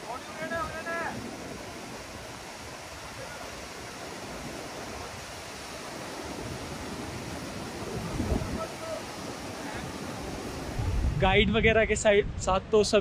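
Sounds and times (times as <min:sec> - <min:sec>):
river rushing over boulders: 0:00.0 - 0:12.1.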